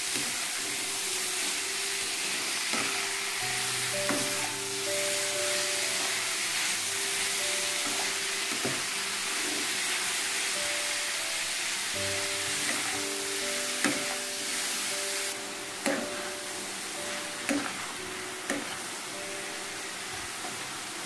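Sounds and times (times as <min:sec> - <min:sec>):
food sizzling in hot oil: 0:00.0 - 0:21.0
soft background music: 0:00.0 - 0:21.0.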